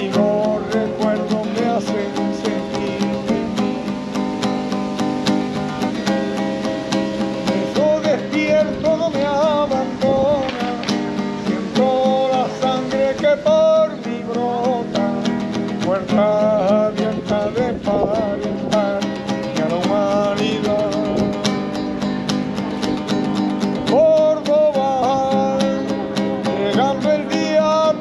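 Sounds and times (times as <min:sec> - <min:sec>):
strummed acoustic guitar: 0:00.0 - 0:28.0.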